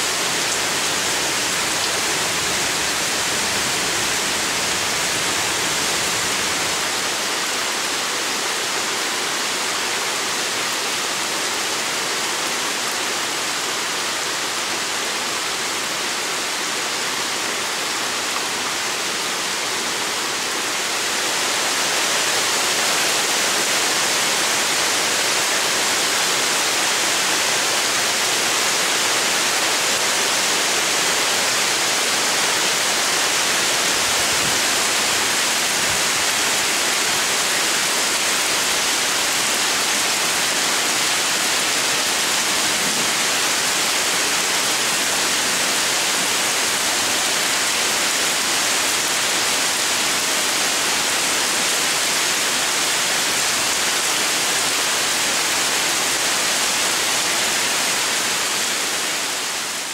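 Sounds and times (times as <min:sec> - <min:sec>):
heavy rain on leaves and pavement: 0:00.0 - 0:59.9.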